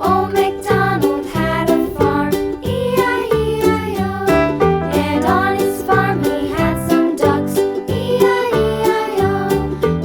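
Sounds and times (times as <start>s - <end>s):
bright children's tune: 0.0s - 10.0s.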